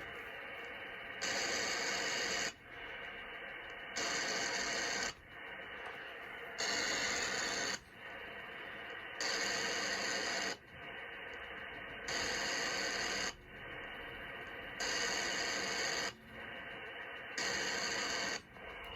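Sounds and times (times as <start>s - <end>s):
bright radio interference hiss: 0.0s - 18.9s.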